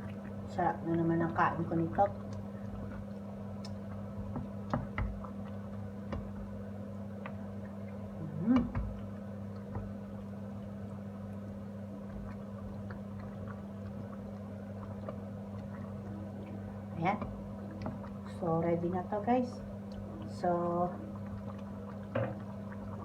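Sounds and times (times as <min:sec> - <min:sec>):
stew simmering with pops: 0:00.0 - 0:23.0.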